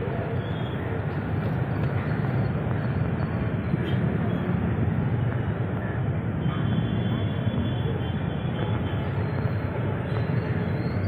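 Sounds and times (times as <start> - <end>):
dense city traffic engine din: 0.0 - 11.0.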